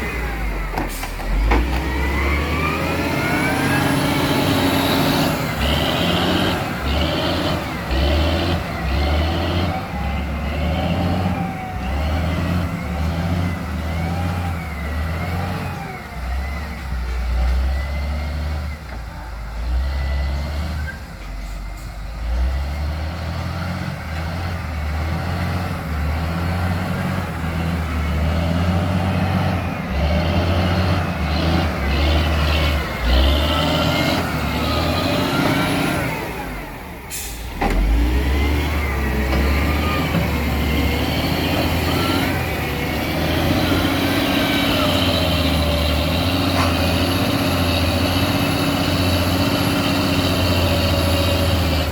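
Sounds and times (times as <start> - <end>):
heavy diesel machinery working: 0.0 - 51.9.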